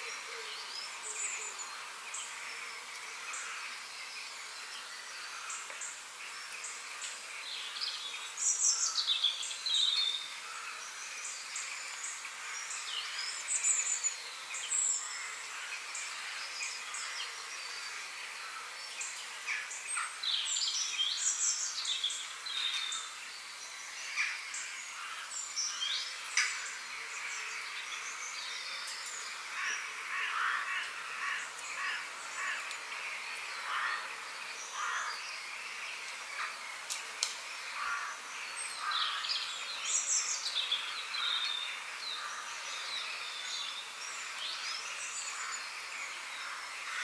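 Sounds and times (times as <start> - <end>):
small birds chirping and singing: 0.0 - 47.0
steady high hiss: 0.0 - 47.0.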